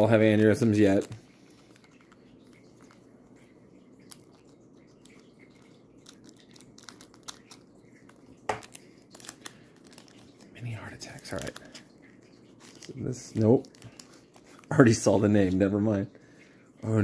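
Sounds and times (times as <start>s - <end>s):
foil wrapper crinkling: 0.0s - 3.1s, 4.0s - 15.7s.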